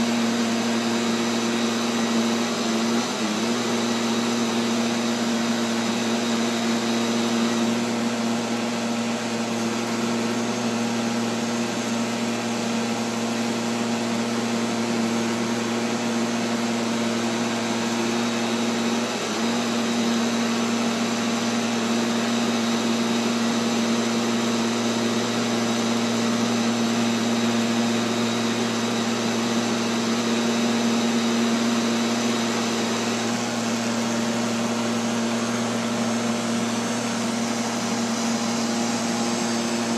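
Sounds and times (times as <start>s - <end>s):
robotic vacuum cleaner motor hum: 0.0s - 39.9s.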